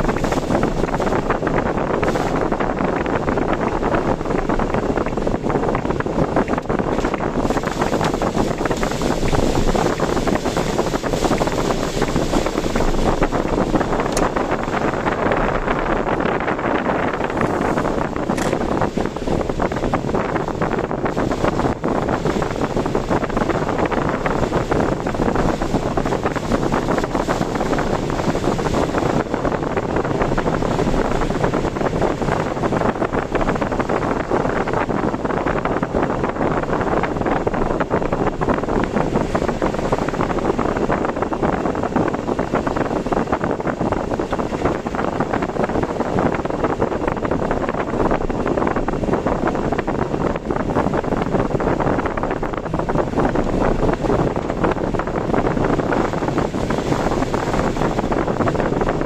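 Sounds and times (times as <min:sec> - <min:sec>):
strong wind on microphone: 0:00.0 - 0:59.0
vehicle road noise: 0:00.0 - 0:59.0.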